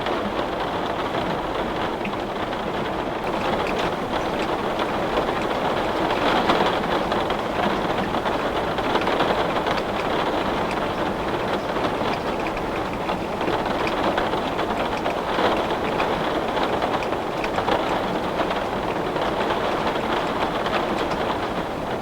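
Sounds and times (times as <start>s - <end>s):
heavy rain on window glass: 0.0s - 22.0s.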